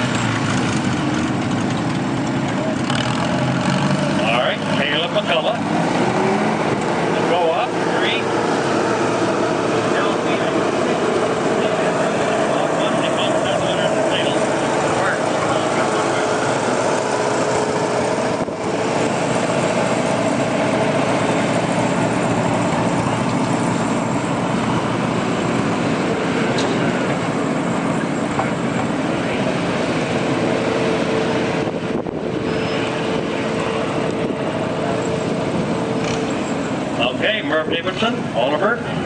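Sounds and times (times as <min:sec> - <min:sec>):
tractor engine running under load: 0:00.0 - 0:39.0.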